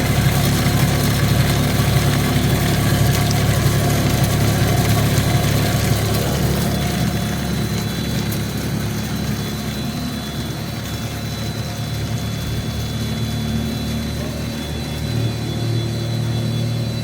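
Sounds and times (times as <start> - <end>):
electric motor hum and whine: 0.0 - 17.0.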